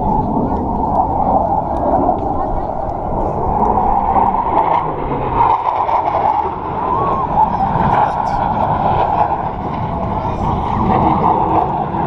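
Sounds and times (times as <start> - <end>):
distant jet engines roaring: 0.0 - 12.0.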